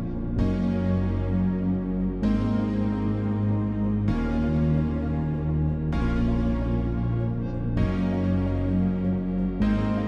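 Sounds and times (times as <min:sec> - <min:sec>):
soft ambient backing music: 0:00.0 - 0:10.0.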